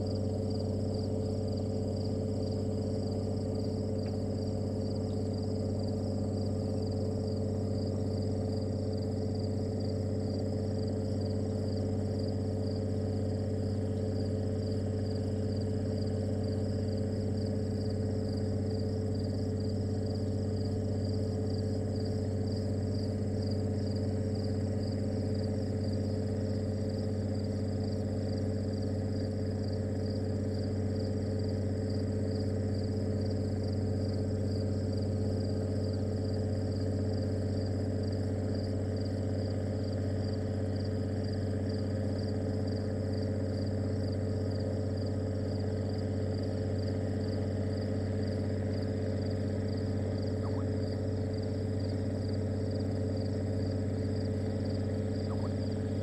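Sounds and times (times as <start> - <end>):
insects trilling: 0.0 - 56.0
low electrical hum: 0.0 - 56.0.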